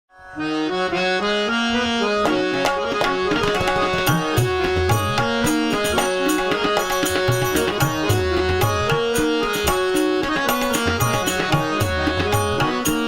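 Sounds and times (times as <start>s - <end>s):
harmonium melody: 0.1s - 13.0s
tabla drumming: 2.2s - 13.0s.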